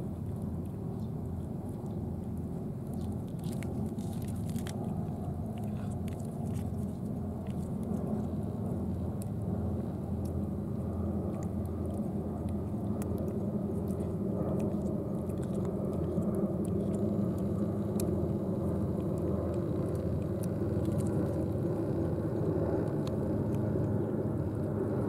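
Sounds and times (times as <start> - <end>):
cat licking and chewing: 0.0 - 25.0
steady low rumble: 0.0 - 25.0.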